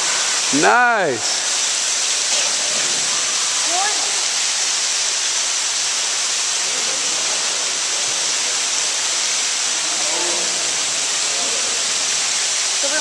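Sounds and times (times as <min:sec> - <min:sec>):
water splashing into pool: 0:00.0 - 0:13.0.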